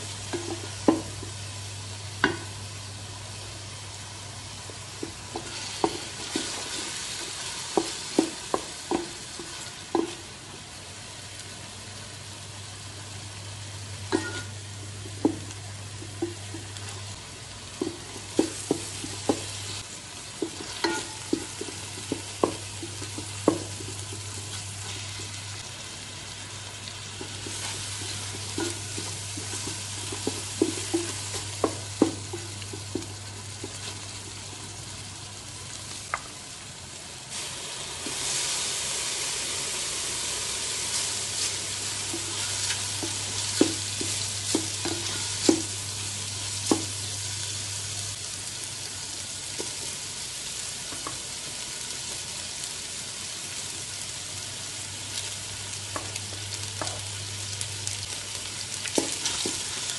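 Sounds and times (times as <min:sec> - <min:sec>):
food sizzling in a pot: 0:00.0 - 0:59.9.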